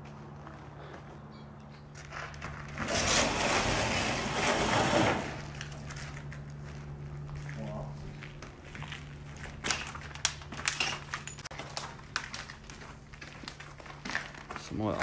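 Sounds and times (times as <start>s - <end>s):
footsteps crunching over debris: 0.0s - 3.0s, 5.4s - 15.0s.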